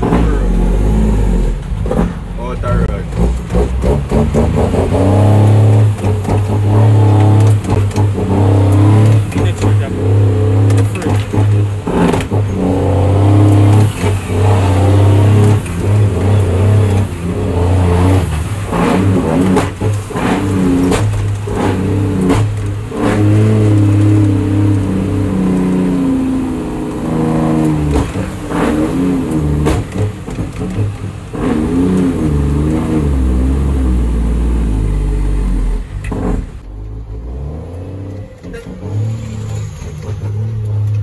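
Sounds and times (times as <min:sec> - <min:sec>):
truck diesel engine pulling: 0:00.0 - 0:41.0.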